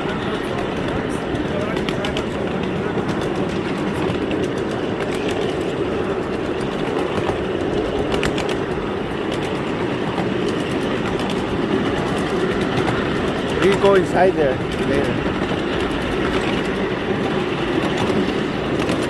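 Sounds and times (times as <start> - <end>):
train rolling along rails: 0.0 - 19.0.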